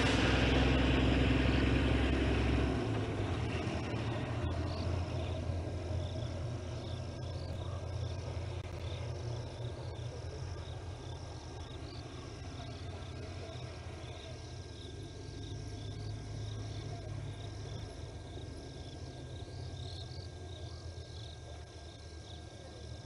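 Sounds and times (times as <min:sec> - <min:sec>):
steady low hum: 0:00.0 - 0:23.0
crickets chirping: 0:00.2 - 0:23.0.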